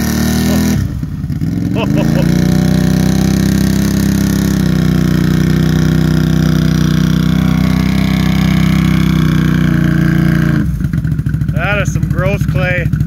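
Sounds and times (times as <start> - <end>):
engine at high revs: 0.0 - 13.0
tires churning through mud: 0.0 - 13.0.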